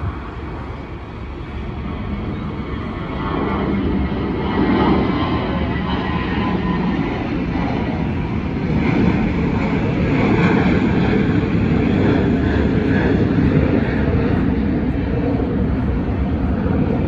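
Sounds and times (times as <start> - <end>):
jet engines taxiing: 0.0 - 17.0.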